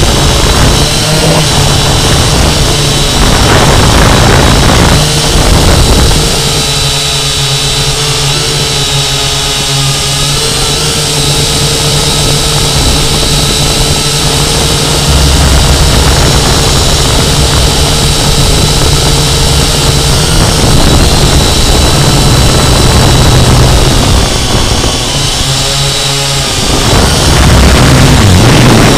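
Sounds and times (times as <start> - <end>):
drone motors whining: 0.0 - 28.9
wind noise on microphone: 0.0 - 28.9.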